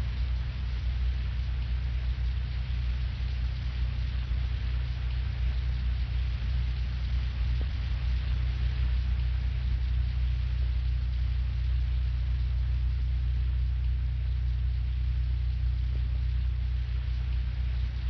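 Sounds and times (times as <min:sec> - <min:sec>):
low rumbling drone: 0:00.0 - 0:18.0.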